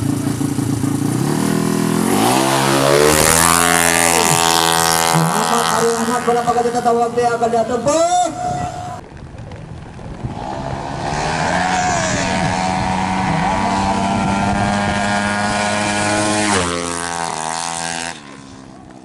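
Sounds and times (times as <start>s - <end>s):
motorcycle engine at high revs: 0.0s - 7.8s, 10.2s - 19.0s.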